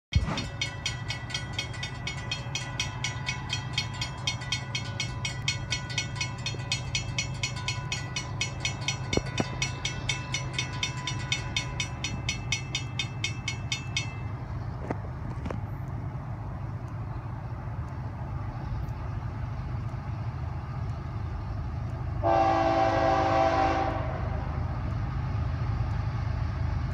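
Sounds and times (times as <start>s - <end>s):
railroad crossing bells ringing: 0.1s - 26.2s.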